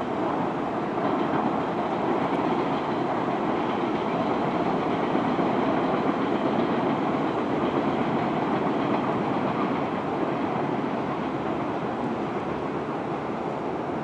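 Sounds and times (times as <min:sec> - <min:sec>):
train wheels rolling on rails: 0:00.0 - 0:14.0.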